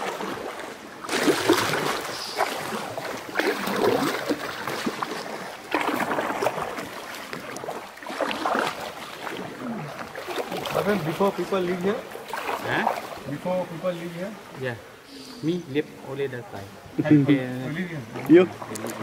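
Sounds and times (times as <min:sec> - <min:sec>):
paddle splashing water: 0:00.0 - 0:19.0.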